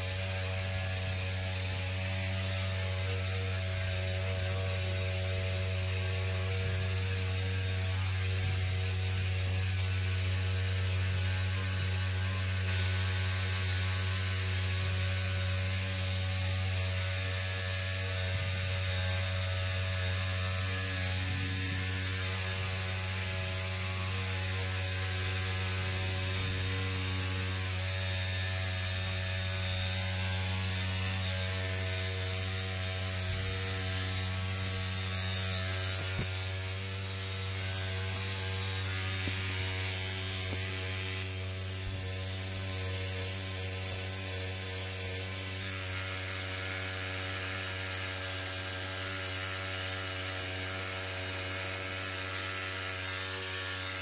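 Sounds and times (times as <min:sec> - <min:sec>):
hvac electrical hum: 0:00.0 - 0:54.0.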